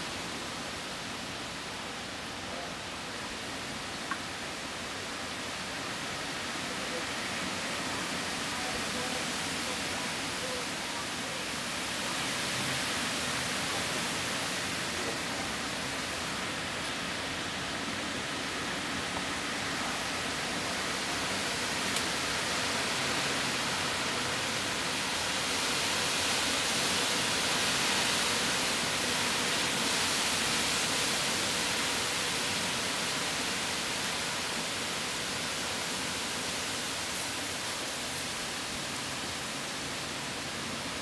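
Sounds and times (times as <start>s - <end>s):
rain rushing: 0.0s - 41.0s.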